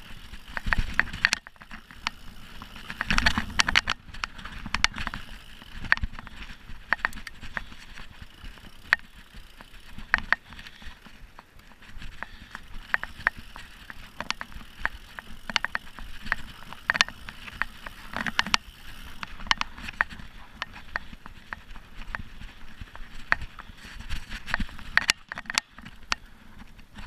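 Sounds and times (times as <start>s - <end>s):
bike rattling and clicking: 0.0s - 27.0s.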